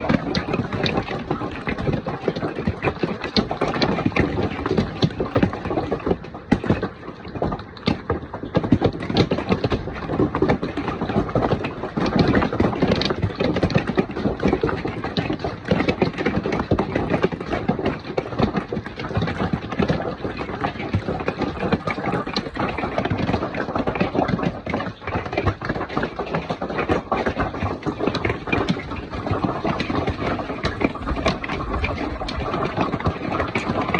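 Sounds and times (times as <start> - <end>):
hail pounding down: 0.0 - 33.9.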